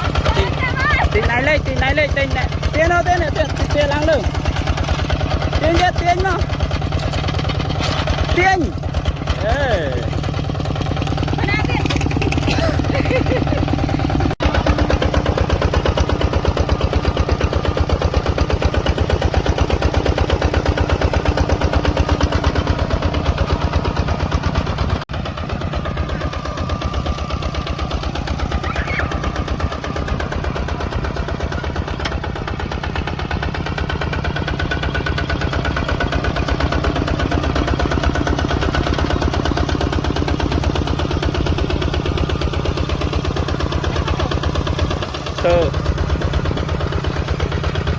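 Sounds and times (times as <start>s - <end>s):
tractor engine chugging: 0.0s - 47.9s.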